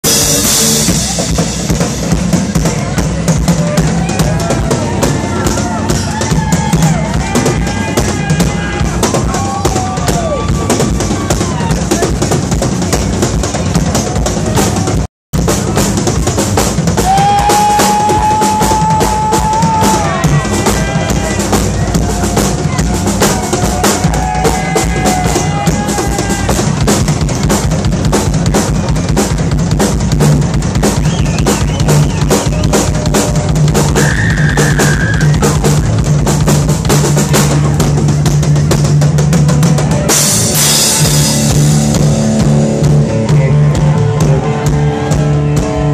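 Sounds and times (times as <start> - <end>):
drum kit played fast: 0.0 - 45.9.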